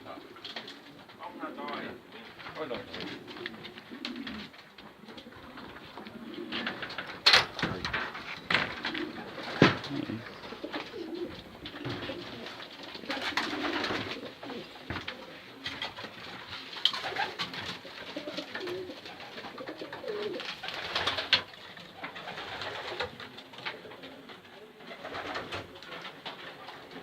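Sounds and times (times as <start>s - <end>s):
pigeons cooing: 0.0s - 27.0s.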